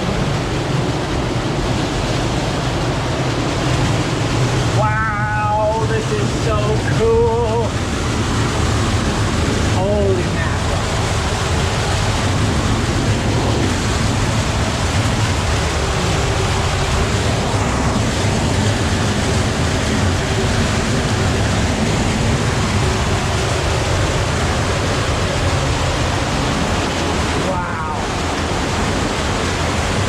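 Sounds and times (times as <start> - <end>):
creek rushing through a cave: 0.0 - 30.0.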